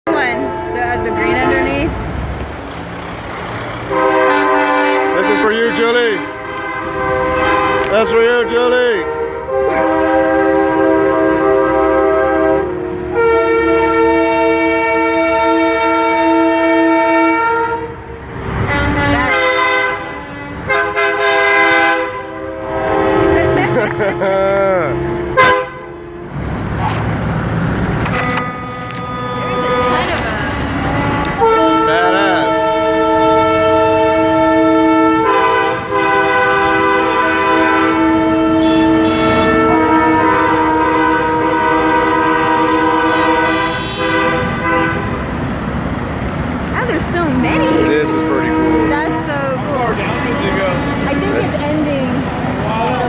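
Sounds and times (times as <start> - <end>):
truck engine noise: 0.0 - 53.0
air horn chord blasts: 3.9 - 18.0, 18.6 - 26.2, 28.0 - 45.2, 46.8 - 51.7.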